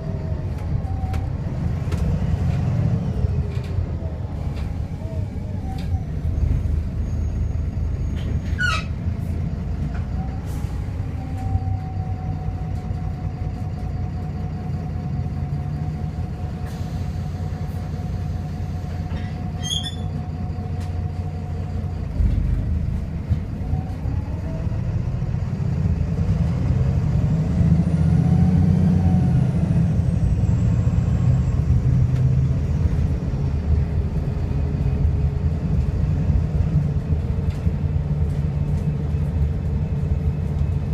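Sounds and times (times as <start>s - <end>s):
bus diesel engine whining: 0.0s - 40.9s.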